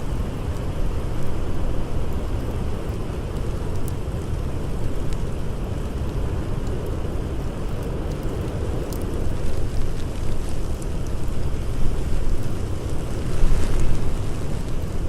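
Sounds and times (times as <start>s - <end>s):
deep blizzard wind: 0.0s - 15.0s
faint campfire crackles: 0.0s - 15.0s.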